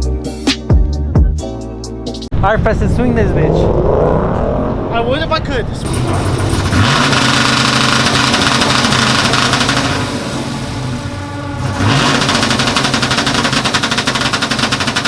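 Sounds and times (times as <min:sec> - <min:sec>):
truck engine revving: 0:02.3 - 0:15.0.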